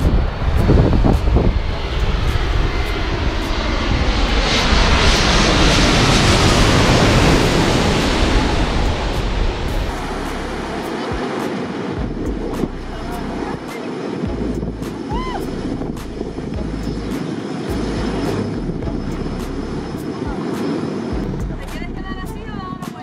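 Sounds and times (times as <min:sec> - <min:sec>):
jet airliner flying overhead: 0:00.0 - 0:23.0.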